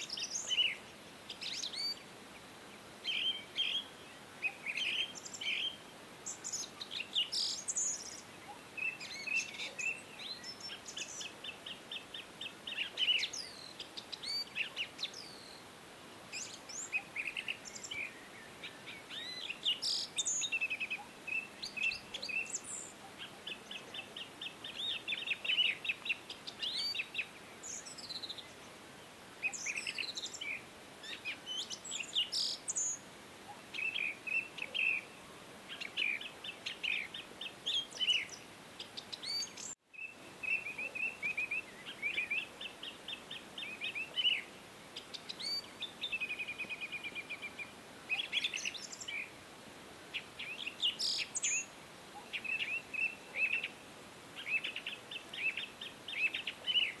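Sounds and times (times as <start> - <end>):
small birds chirping and trilling: 0.0 - 49.4, 50.0 - 57.0.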